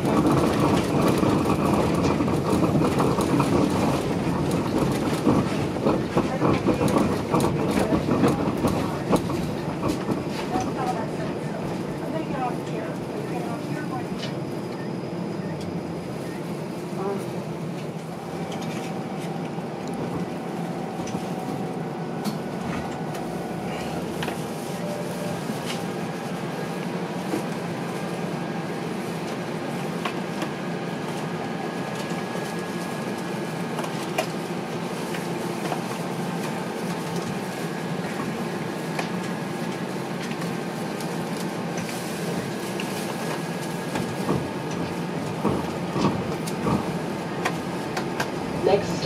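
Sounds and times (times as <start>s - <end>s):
streetcar drive and ventilation hum: 0.0s - 49.0s.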